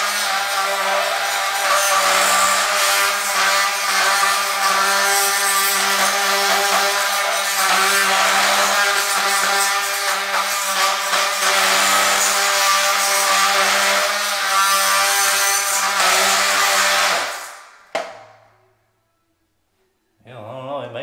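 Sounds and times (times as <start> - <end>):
cordless power tool cutting tile: 0.0 - 18.1.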